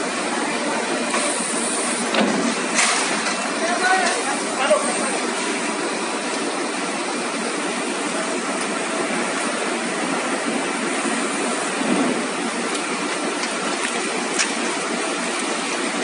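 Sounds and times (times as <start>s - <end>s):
mill machinery running: 0.0s - 16.0s.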